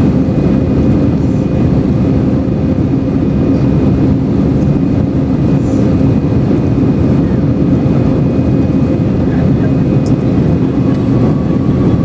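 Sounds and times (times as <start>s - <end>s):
airliner cabin jet engine rumble: 0.0s - 12.0s.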